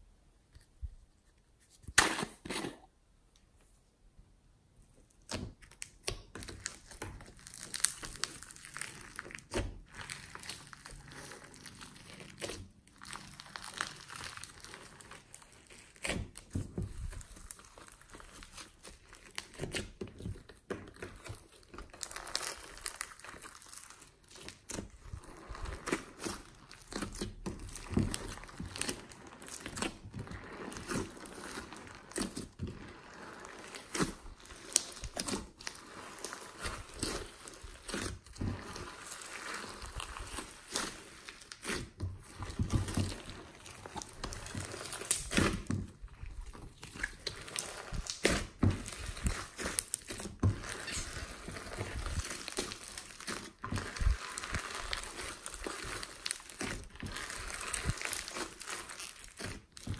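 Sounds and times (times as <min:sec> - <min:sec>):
slime clicking and squelching: 0:05.0 - 0:59.9.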